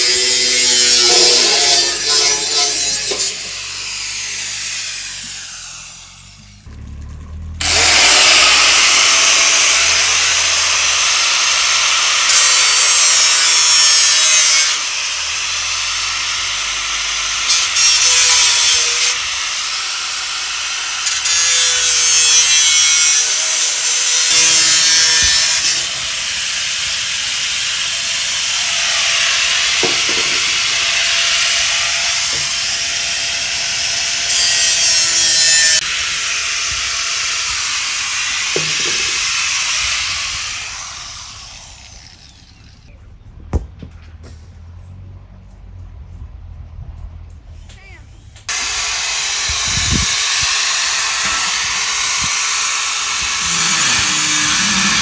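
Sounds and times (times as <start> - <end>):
angle grinder cutting metal: 0.0 - 6.7, 7.6 - 42.9, 48.5 - 55.0.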